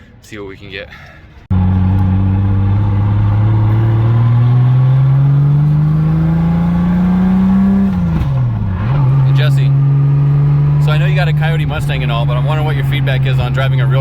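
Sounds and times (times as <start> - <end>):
car engine accelerating: 1.5 - 14.0.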